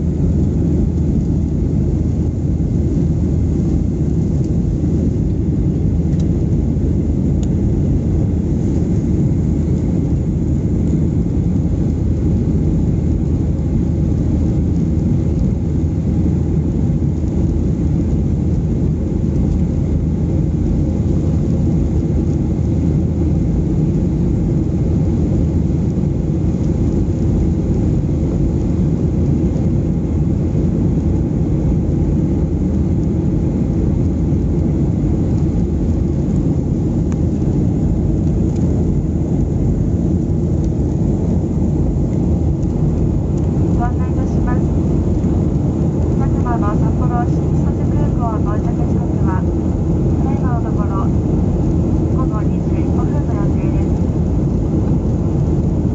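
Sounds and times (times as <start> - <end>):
airliner cabin roar: 0.0 - 55.9.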